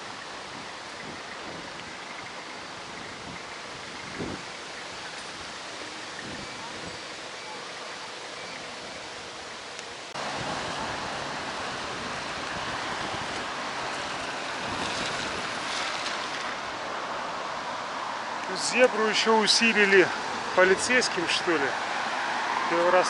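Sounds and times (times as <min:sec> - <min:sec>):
wind rushing over microphone: 0:00.0 - 0:07.3, 0:10.2 - 0:23.0.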